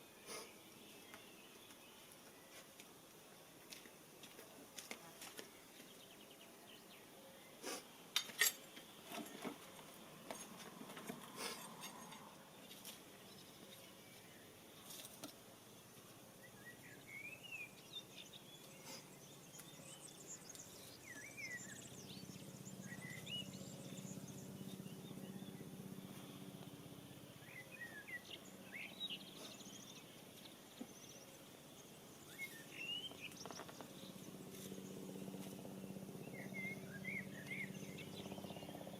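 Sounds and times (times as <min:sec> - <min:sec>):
small birds chirping: 0:00.0 - 0:38.9
low steady hum: 0:05.4 - 0:38.9.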